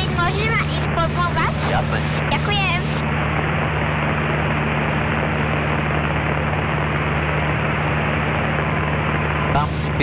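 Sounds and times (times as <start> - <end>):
small plane engine droning: 0.0 - 10.0.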